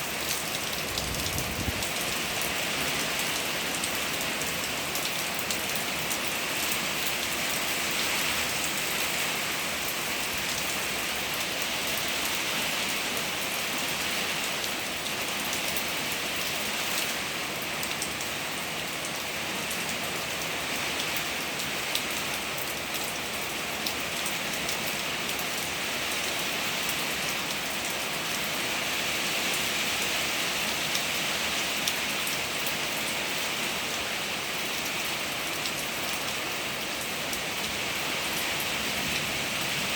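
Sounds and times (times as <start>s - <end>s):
steady rain in wind: 0.0s - 39.9s.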